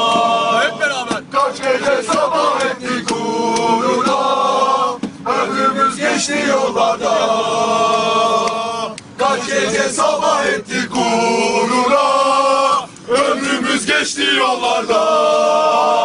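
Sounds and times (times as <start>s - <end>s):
crowd of men chanting: 0.0s - 16.0s.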